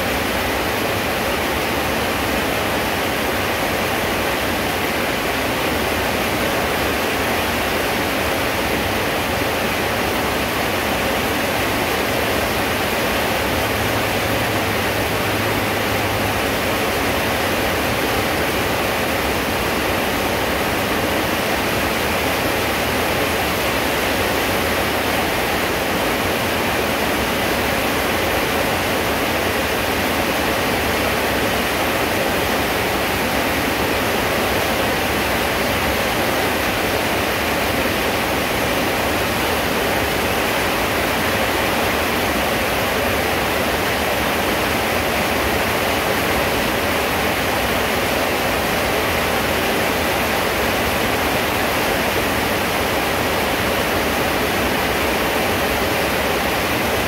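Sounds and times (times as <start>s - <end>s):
loud steady rain: 0.0s - 57.0s.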